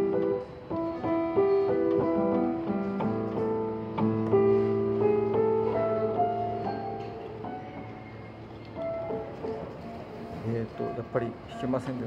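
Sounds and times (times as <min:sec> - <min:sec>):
digital piano melody over chords: 0:00.0 - 0:12.0.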